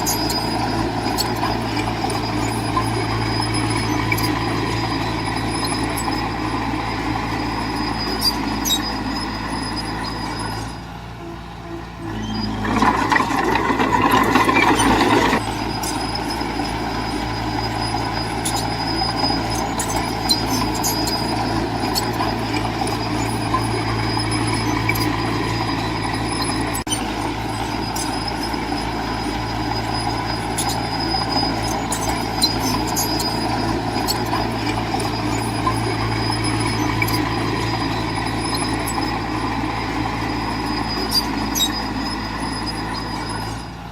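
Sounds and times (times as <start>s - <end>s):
heavy diesel machinery running: 0.0s - 43.9s.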